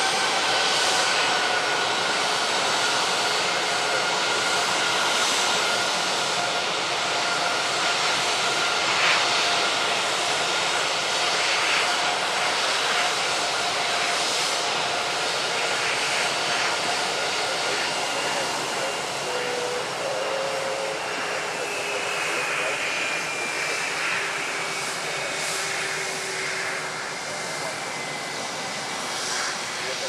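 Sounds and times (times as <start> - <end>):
jet engines running at low power: 0.0 - 30.0.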